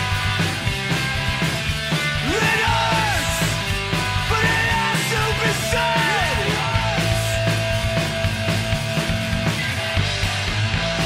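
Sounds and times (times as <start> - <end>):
punk rock band playing: 0.0 - 11.0.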